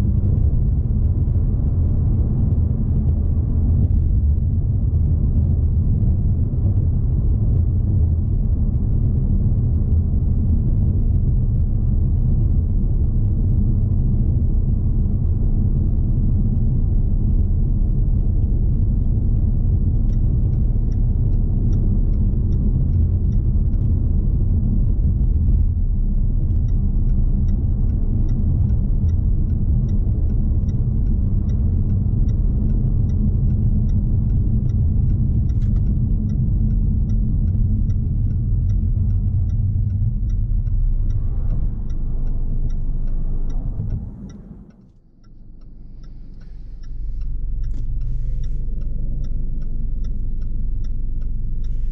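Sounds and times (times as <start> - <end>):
car engine and road noise: 0.0 - 51.9
light regular ticking: 0.0 - 51.9.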